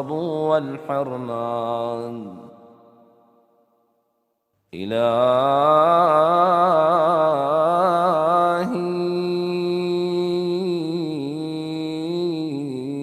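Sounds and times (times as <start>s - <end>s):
man chanting one long tone: 0.0s - 3.0s, 4.8s - 13.0s.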